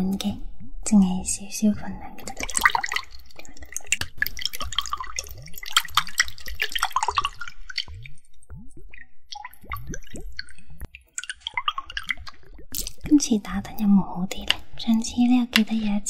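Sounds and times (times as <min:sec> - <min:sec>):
water dripping into a bowl: 0:00.0 - 0:15.9.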